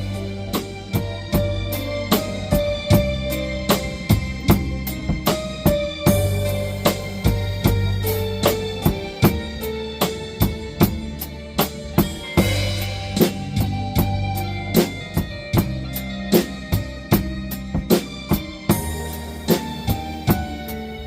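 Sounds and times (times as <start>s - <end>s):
blues backing track: 0.0s - 21.0s
drum kit blues groove: 0.0s - 21.0s.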